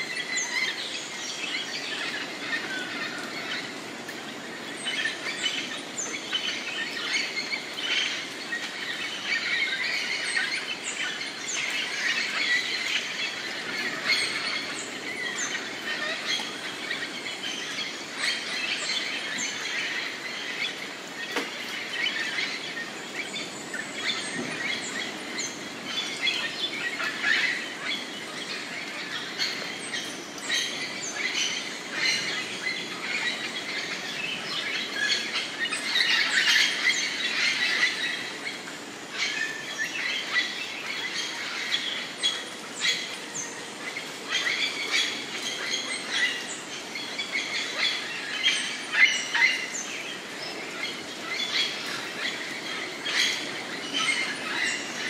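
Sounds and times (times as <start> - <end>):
tropical birds chirping and whistling: 0.0 - 55.0.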